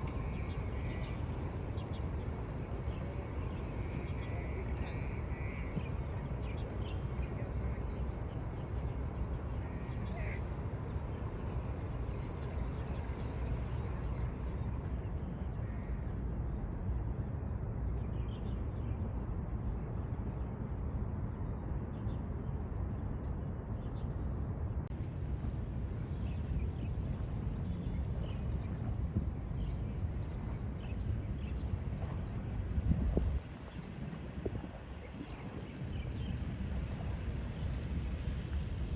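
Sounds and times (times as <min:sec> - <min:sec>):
low outdoor rumble: 0:00.0 - 0:38.9.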